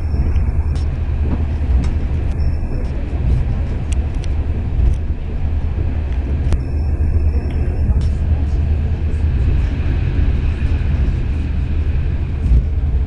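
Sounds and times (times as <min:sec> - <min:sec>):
train interior low rumble: 0:00.0 - 0:13.0.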